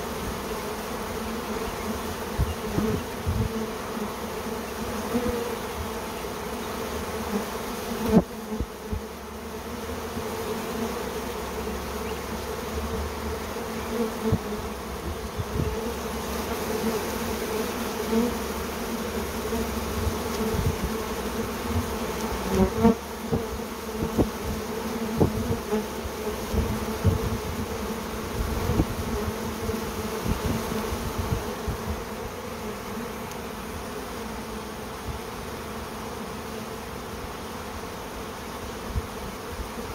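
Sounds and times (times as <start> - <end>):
bee swarm buzzing: 0.0 - 39.9.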